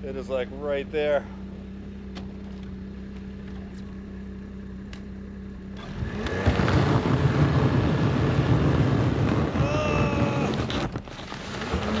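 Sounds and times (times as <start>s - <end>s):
snowmobile engine: 0.6s - 12.0s.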